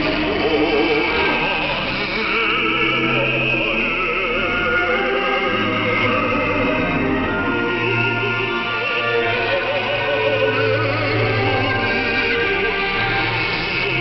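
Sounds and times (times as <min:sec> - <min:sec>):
orchestral accompaniment: 0:00.0 - 0:14.0
singer with heavy vibrato: 0:00.0 - 0:14.0.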